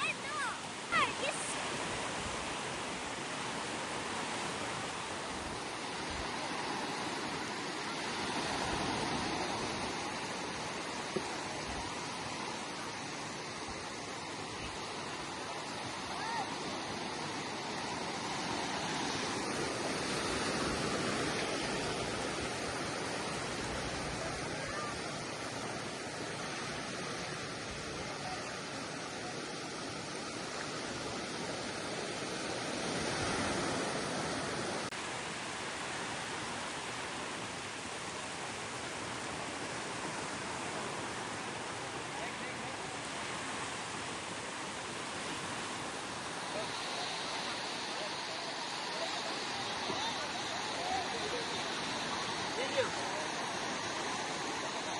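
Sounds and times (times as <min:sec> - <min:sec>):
sea waves washing onto beach: 0:00.0 - 0:54.9.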